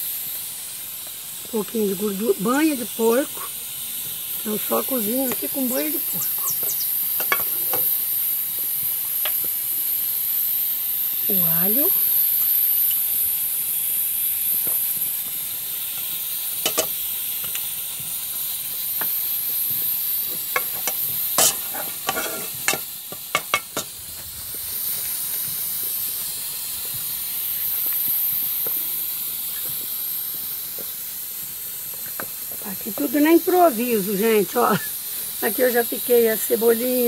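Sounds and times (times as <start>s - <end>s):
garlic sizzling in lard: 0.0s - 37.0s.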